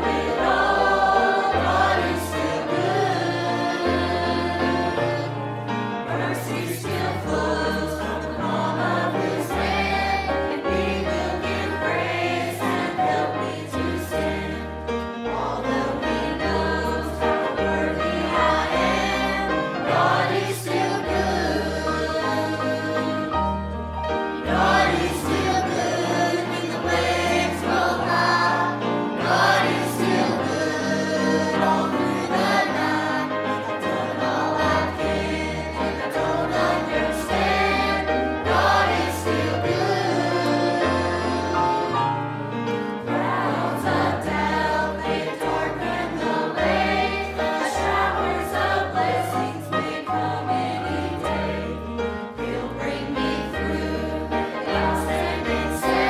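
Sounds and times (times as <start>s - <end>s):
choir singing gospel song: 0.0s - 56.0s
piano accompaniment: 0.0s - 56.0s.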